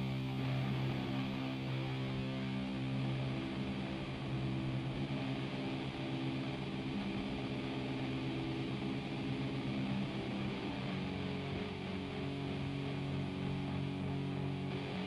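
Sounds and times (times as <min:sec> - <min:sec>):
distortion hiss: 0:00.0 - 0:15.0
droning distorted electric guitar: 0:00.0 - 0:15.0.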